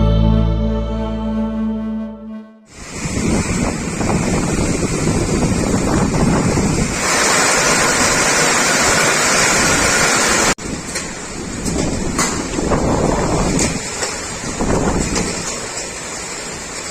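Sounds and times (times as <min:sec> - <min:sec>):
heavy rain pouring: 0:02.7 - 0:16.9.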